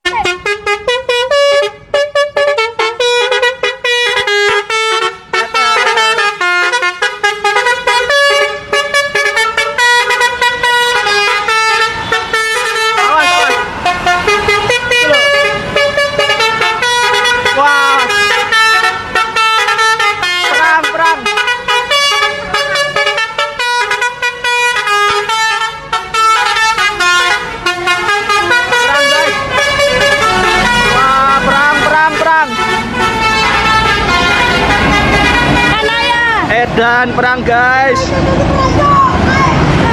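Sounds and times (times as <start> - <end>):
musical bus air horn melody: 0.0 - 36.5.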